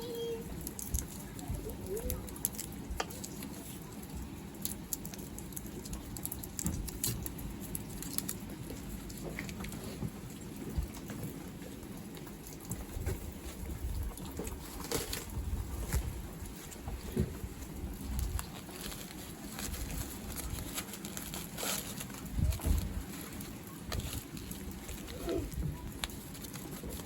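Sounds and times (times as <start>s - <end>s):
rain drops pattering: 0.0s - 27.0s.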